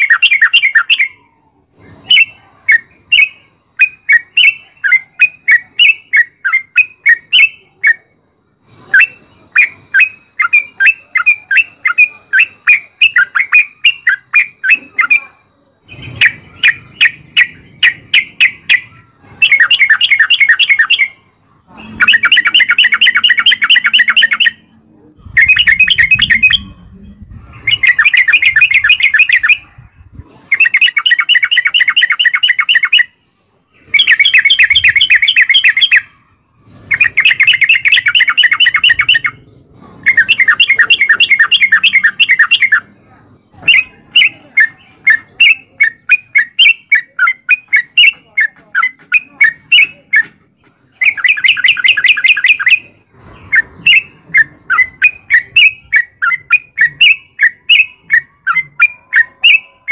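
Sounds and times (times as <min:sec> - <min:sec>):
bird rapid chirping song: 0:00.0 - 0:59.9.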